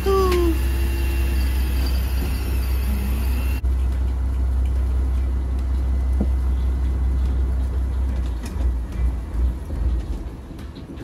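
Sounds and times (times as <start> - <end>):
boat engine droning: 0.0 - 10.7.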